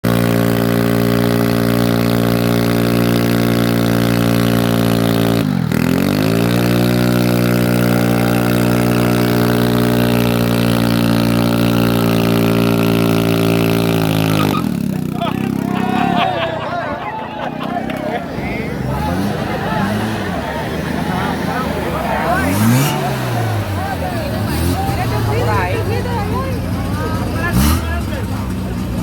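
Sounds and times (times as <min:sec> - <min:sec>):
engine revving high: 0:00.0 - 0:29.0.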